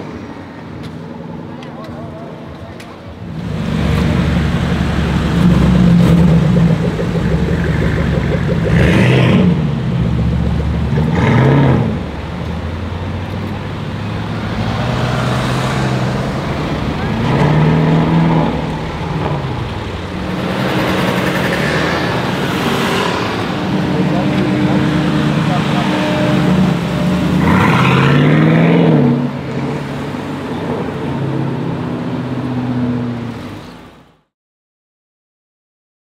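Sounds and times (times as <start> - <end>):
cars accelerating past: 3.2 - 34.0.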